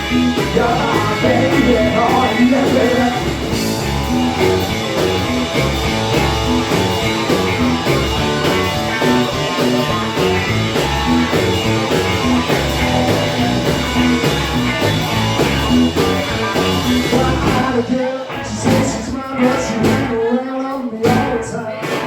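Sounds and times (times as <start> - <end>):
electric guitar: 0.0 - 22.0
steady drum beat: 0.0 - 22.0.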